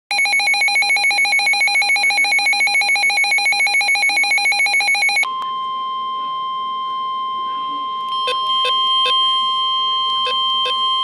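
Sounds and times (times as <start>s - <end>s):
rapid electronic alarm beeps: 0.1s - 11.0s.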